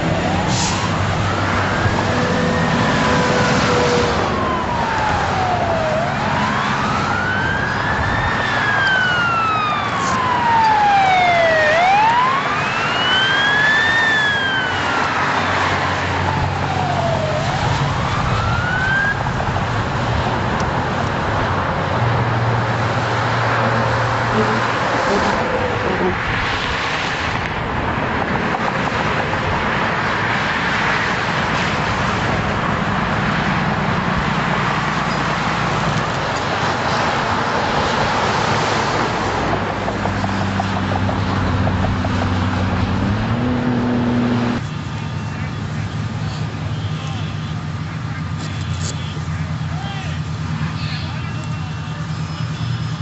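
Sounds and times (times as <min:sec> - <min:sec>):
emergency vehicle siren wailing: 0:00.0 - 0:53.0
traffic noise: 0:00.0 - 0:53.0.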